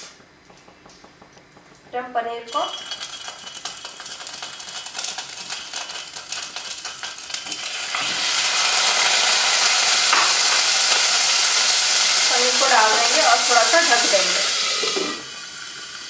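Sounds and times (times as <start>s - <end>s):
paneer frying in hot oil: 2.8s - 16.0s.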